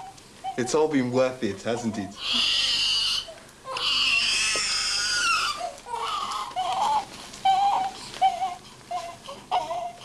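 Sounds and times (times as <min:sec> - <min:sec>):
newborn baby crying: 0:00.0 - 0:01.0, 0:01.6 - 0:10.0.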